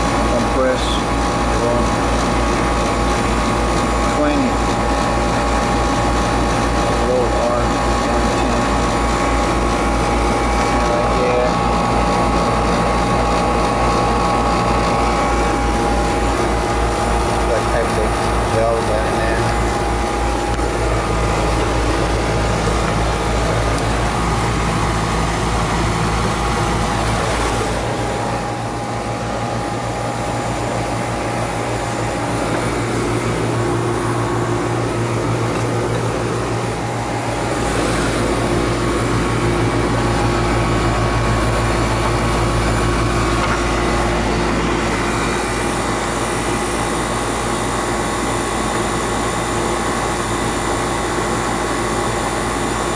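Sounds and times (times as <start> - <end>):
steady tones: 0.0 - 50.0
heating equipment humming: 0.0 - 52.9.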